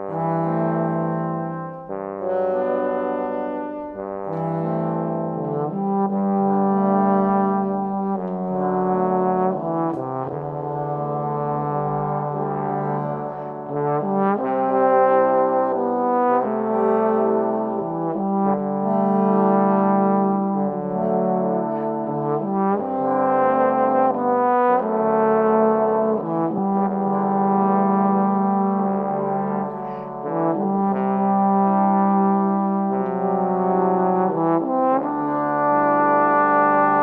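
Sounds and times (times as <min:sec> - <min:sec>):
trombones playing in harmony: 0:00.0 - 0:37.0.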